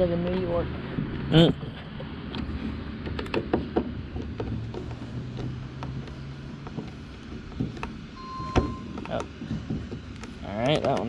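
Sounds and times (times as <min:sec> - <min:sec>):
hand tools clicking and tapping: 0:00.2 - 0:11.0.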